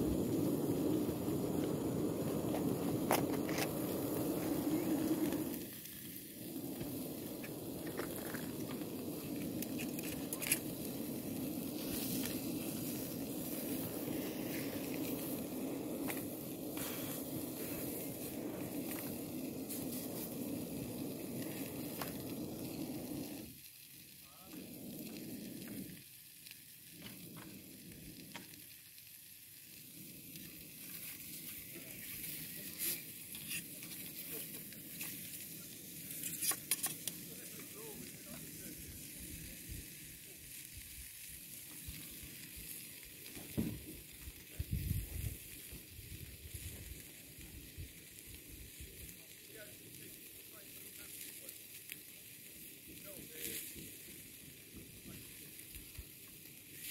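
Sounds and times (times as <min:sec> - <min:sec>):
gas burner rushing: 0:00.0 - 0:26.1, 0:26.9 - 0:28.7, 0:29.6 - 0:47.9
food sizzling in a pan: 0:00.0 - 0:56.9
small clicks and crackles: 0:00.1 - 0:56.9.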